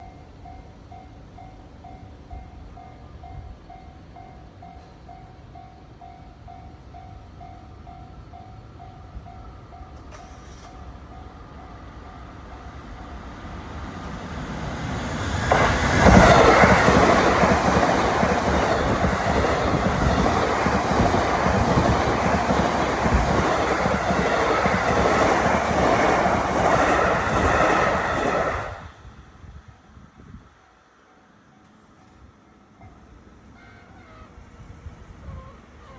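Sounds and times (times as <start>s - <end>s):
train passing rumble: 0.0s - 35.9s.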